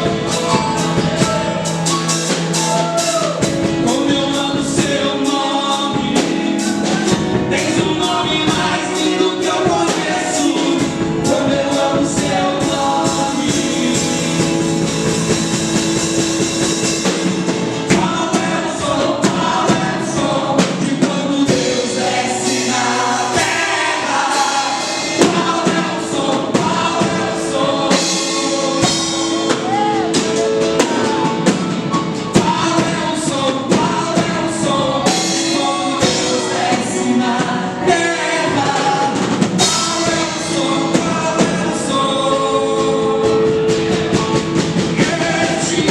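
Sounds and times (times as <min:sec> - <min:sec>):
worship singing over a band: 0:00.0 - 0:45.9.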